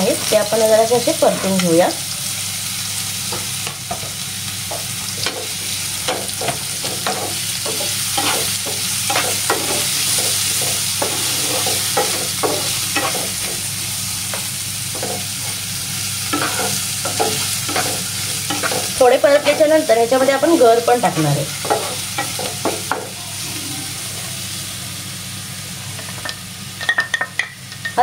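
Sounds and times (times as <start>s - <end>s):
pineapple sizzling in a frying pan: 0.0s - 28.0s.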